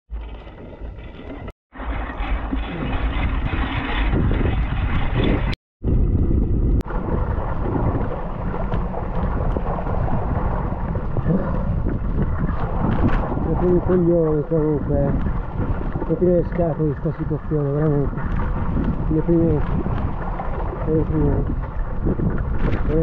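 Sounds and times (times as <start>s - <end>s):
wind buffeting microphone: 0.9s - 23.0s.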